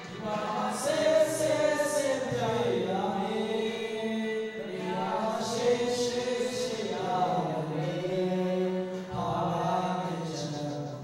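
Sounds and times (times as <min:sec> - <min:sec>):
men singing together: 0:00.0 - 0:11.0.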